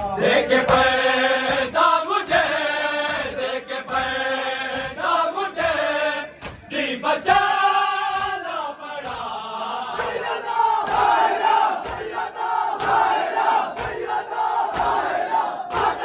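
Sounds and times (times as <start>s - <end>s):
hands slapping on chests: 0.0s - 16.0s
men chanting in unison: 0.0s - 16.0s.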